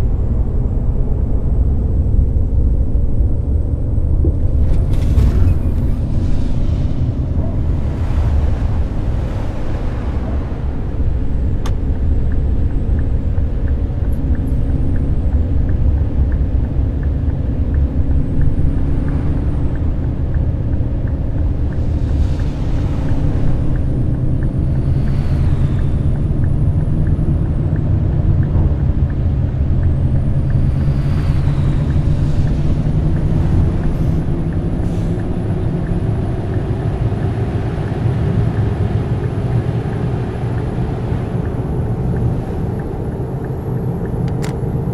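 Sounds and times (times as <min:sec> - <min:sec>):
diesel coach engine running: 0:00.0 - 0:44.9
low road rumble: 0:00.0 - 0:44.9.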